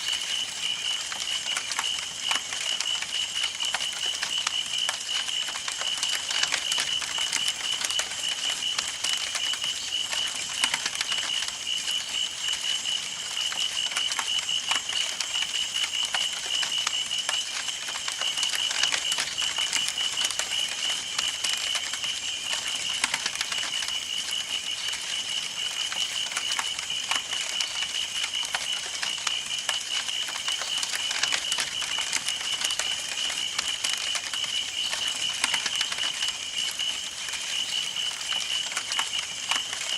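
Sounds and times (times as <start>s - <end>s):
wood crackling and popping: 0.0s - 39.9s.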